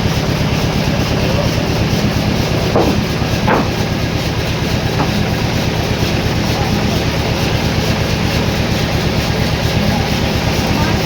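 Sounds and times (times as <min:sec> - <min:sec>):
sawmill machinery humming and clattering: 0:00.0 - 0:11.0.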